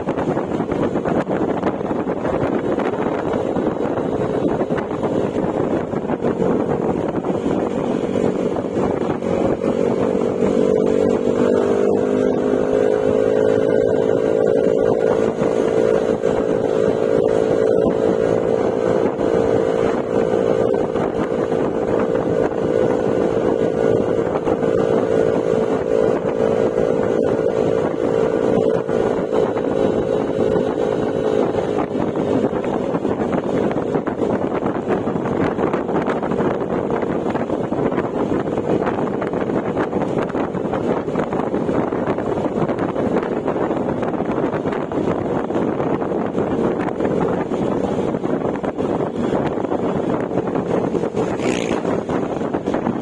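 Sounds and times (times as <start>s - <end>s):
scooter engine running: 0.0s - 53.0s
wind rushing over microphone: 0.0s - 53.0s.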